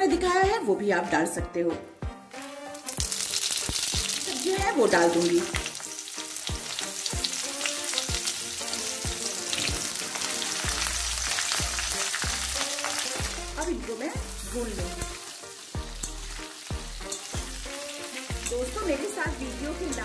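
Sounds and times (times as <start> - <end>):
vegetables sizzling in hot oil: 2.3 - 20.0.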